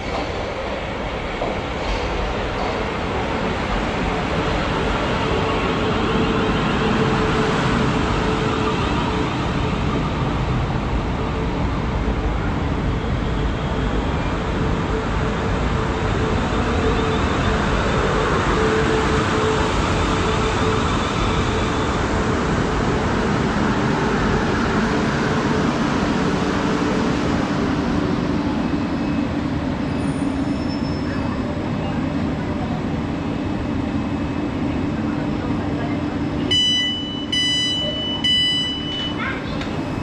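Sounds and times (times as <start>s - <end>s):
train hum: 0.0s - 40.0s.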